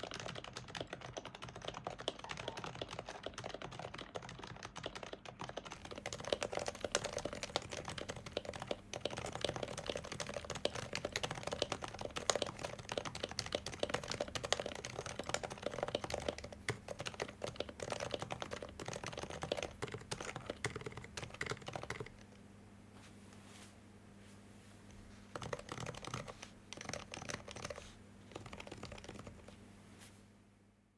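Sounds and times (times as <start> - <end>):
muted keyboard typing: 0.0 - 22.3, 25.3 - 29.6.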